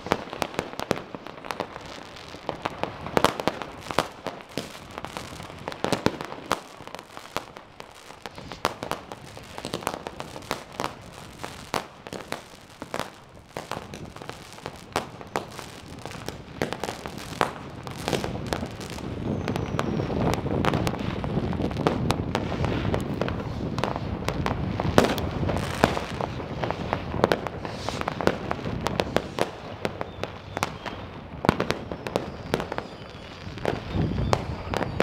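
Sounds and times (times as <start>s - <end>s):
fireworks bangs and pops: 0.0s - 35.0s.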